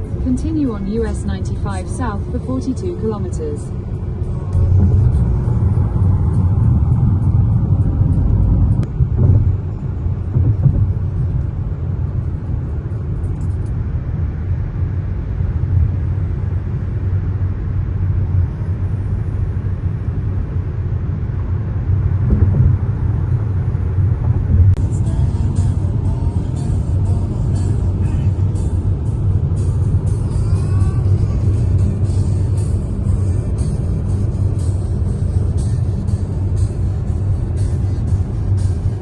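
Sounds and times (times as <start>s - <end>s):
car driving on highway: 0.0s - 39.0s.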